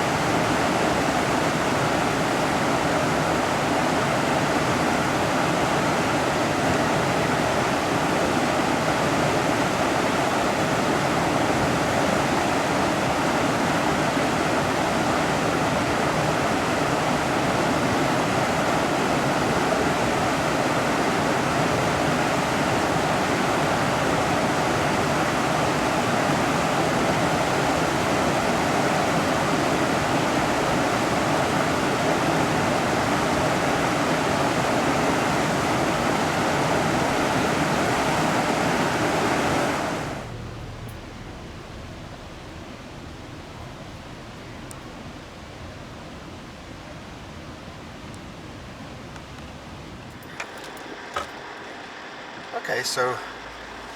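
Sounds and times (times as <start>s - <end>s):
mountain river flowing: 0.0s - 53.9s.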